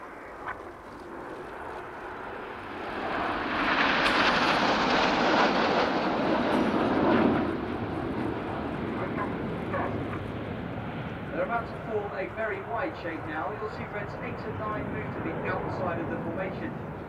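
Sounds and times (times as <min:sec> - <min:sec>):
jet aircraft flying past: 0:00.0 - 0:17.0.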